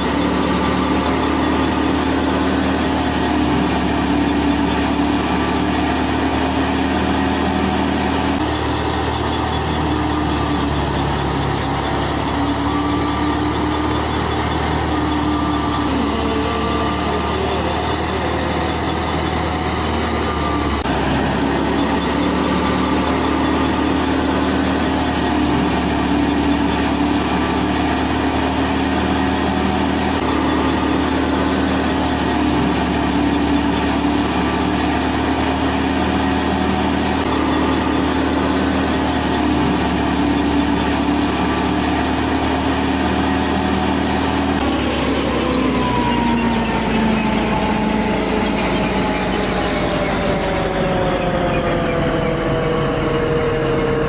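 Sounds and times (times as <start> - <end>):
motor droning: 0.0 - 54.0.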